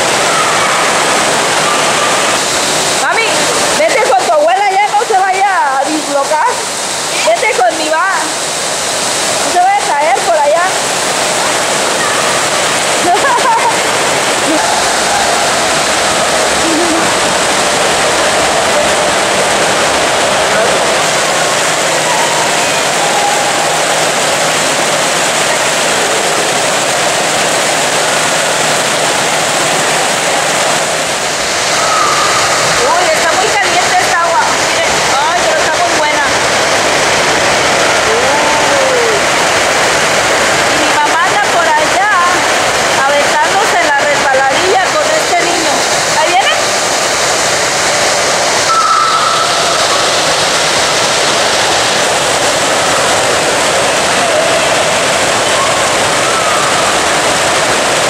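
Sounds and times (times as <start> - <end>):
water splashing into pool: 0.0 - 58.0
water spray rushing: 0.0 - 58.0.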